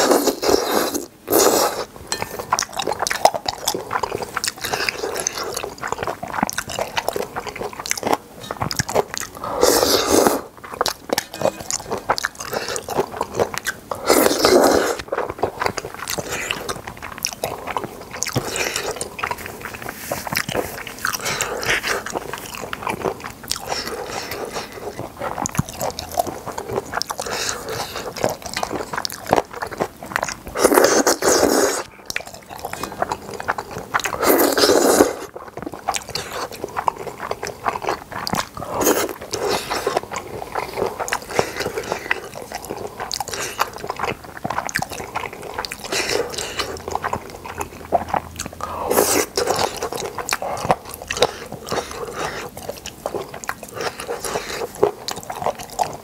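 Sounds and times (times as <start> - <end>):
wet chewing and mouth smacks: 0.0 - 56.0.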